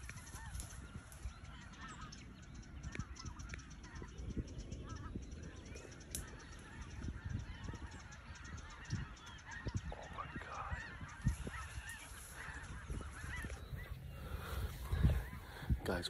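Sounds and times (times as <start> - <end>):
flock of geese honking: 0.0 - 16.0.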